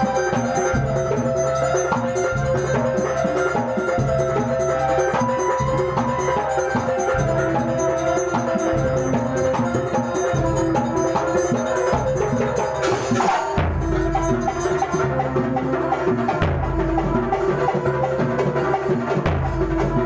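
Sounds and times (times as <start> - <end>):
drums and percussion: 0.0 - 20.0
pitched melody: 0.0 - 20.0.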